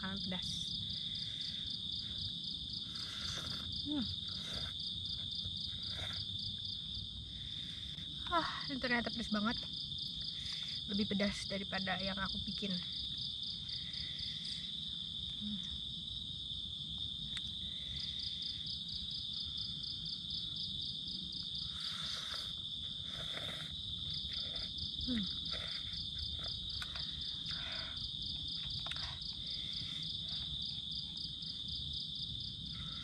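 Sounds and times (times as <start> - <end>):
insects trilling: 0.0 - 33.0
rapidly pulsing insect call: 0.0 - 33.0.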